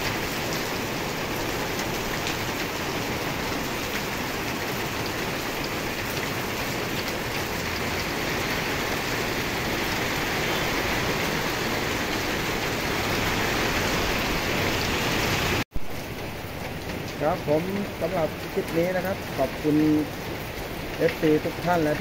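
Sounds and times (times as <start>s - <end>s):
heavy rain on pavement: 0.0s - 22.0s.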